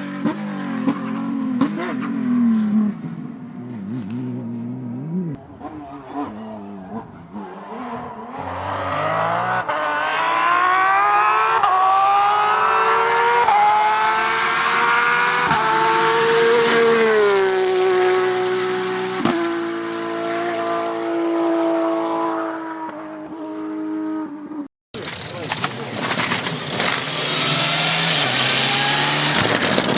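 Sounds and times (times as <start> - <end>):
rally car accelerating: 0.0 - 29.9.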